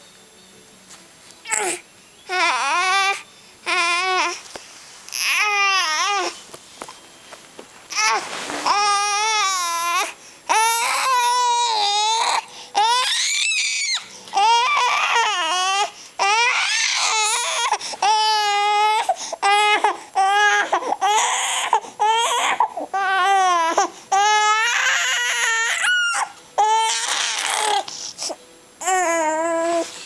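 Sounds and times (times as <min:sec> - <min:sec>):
infant crying: 0:01.5 - 0:04.4, 0:05.1 - 0:06.4, 0:07.9 - 0:29.9.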